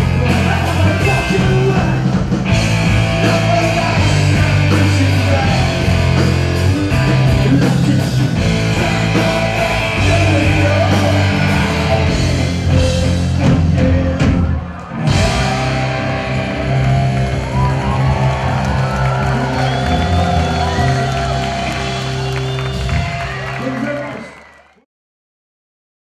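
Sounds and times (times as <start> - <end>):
live rock band playing: 0.0 - 24.1.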